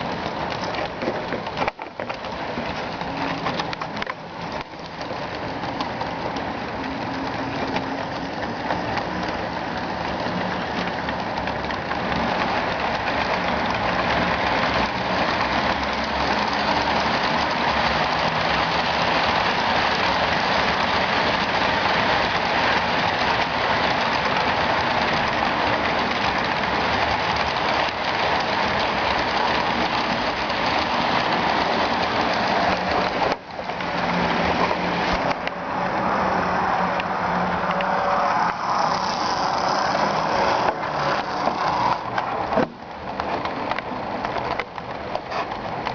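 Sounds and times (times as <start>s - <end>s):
model train wheels on rails: 0.0s - 45.9s.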